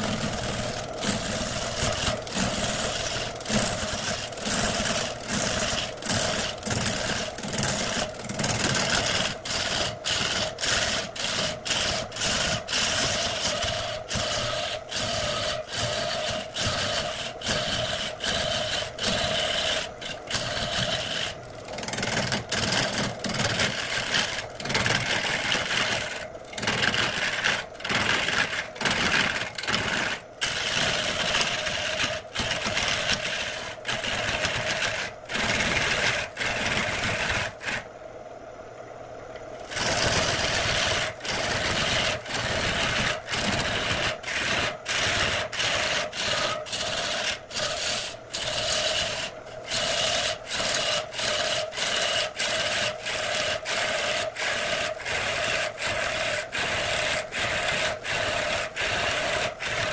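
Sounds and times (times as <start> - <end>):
lathe tool scraping wood: 0.0 - 37.8, 39.6 - 59.9
lathe humming: 0.0 - 37.9, 39.6 - 59.9.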